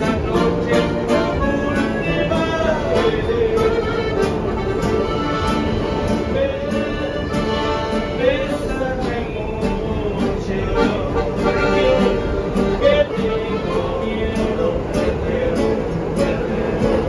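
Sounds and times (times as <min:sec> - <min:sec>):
accordion melody: 0:00.0 - 0:17.0
acoustic guitar accompaniment: 0:00.0 - 0:17.0.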